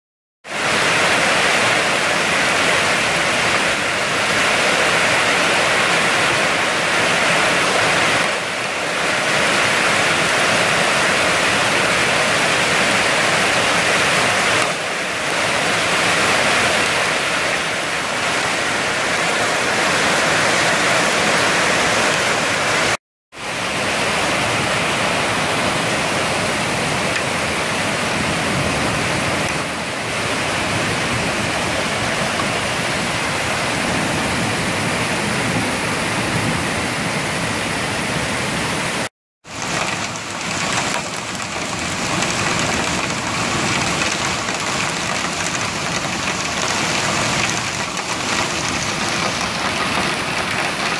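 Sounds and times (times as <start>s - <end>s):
heavy rain on rooftops: 0.4s - 50.9s.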